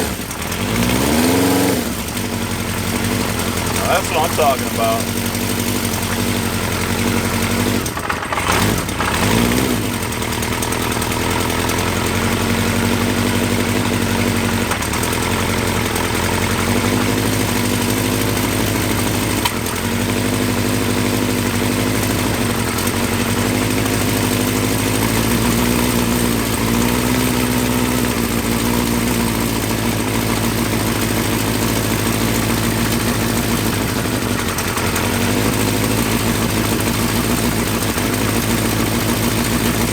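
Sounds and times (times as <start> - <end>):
motorcycle engine idling: 1.9 - 8.4, 10.0 - 39.9.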